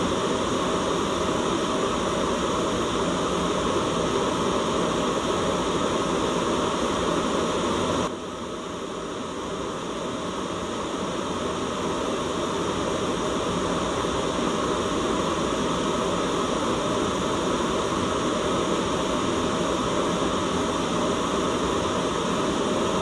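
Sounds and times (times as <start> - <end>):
white noise hiss: 0.0 - 23.0.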